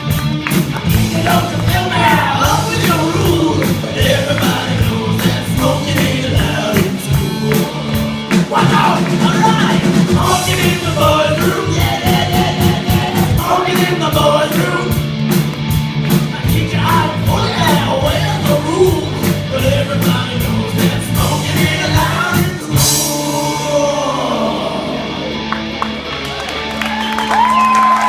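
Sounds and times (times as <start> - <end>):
drums: 0.0 - 28.0
live rock band playing: 0.0 - 28.0
person singing: 0.7 - 15.0, 16.3 - 25.4.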